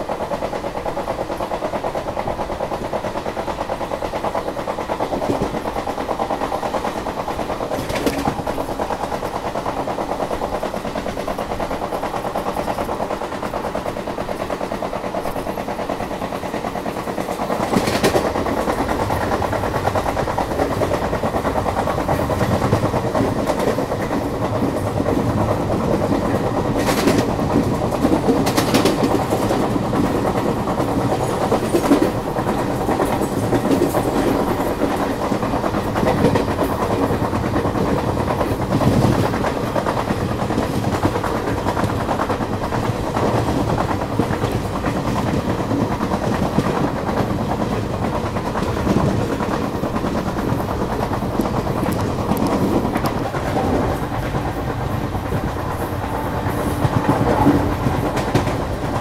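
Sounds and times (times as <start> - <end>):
train wheels rattling on rails: 0.0 - 59.0.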